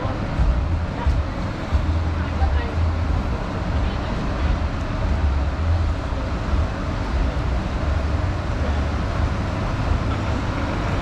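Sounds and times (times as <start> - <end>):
passing traffic rumble: 0.0 - 11.0.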